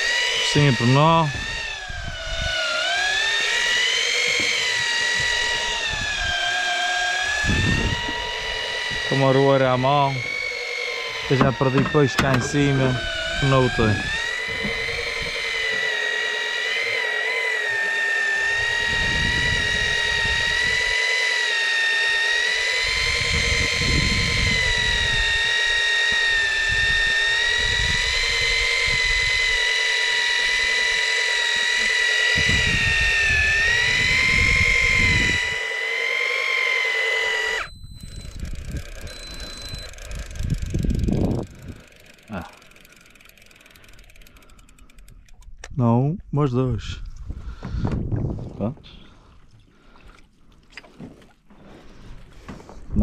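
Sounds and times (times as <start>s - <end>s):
fishing reel motor whining: 0.0s - 45.8s.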